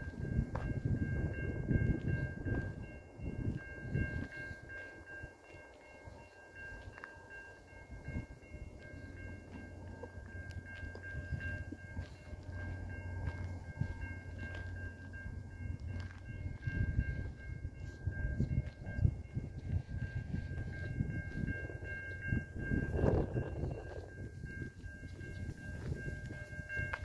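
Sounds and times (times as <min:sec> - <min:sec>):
freight train rumbling: 0:00.0 - 0:27.0
level crossing warning bell: 0:00.0 - 0:27.0.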